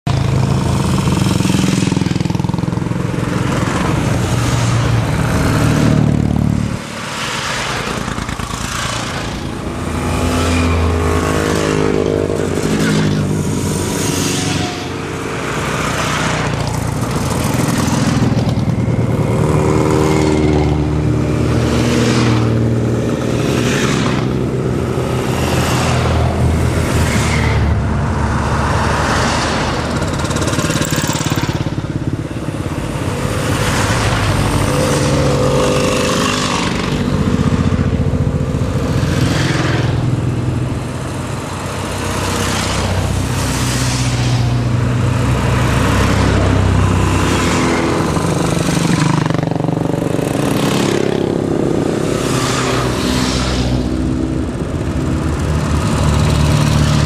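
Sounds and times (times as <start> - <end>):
motorcycles riding past: 0.1 - 57.0
car passing: 0.2 - 57.0.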